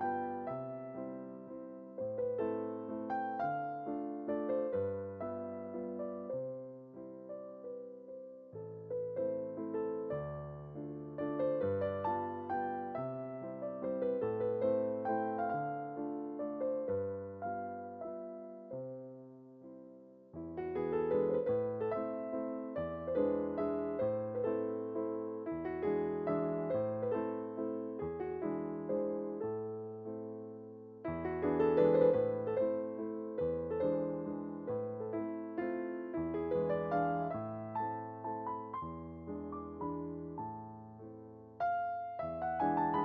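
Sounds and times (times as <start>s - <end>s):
electric piano melody: 0.0s - 43.0s.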